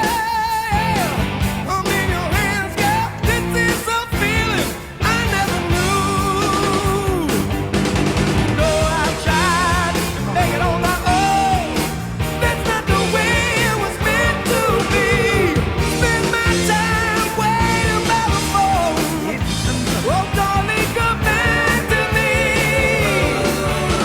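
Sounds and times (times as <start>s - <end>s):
rock music with singer: 0.0s - 24.0s.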